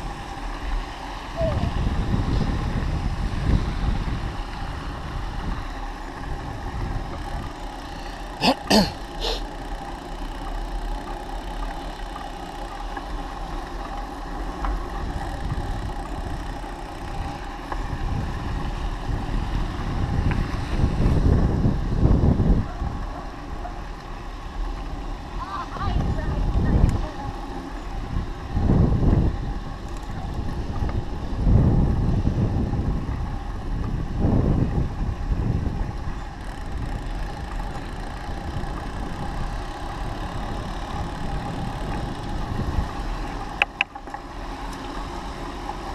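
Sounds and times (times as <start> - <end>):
wind rumble on microphone: 0.0 - 8.4, 13.0 - 45.9
bicycle rolling and rattling: 0.0 - 45.9.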